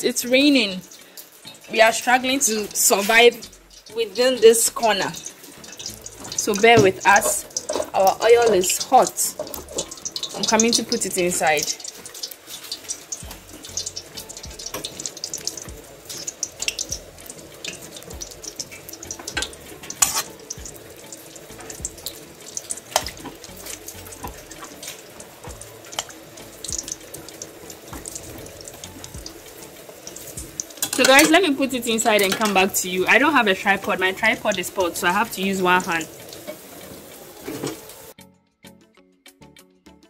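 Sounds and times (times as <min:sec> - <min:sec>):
dough sizzling in hot oil: 0:00.0 - 0:38.2
rain falling: 0:00.0 - 0:38.2.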